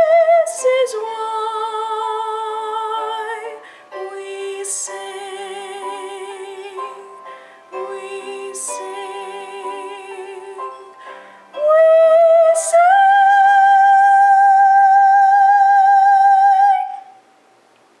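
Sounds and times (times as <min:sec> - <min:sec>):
musical accompaniment: 0:00.0 - 0:17.0
woman singing: 0:00.0 - 0:17.2.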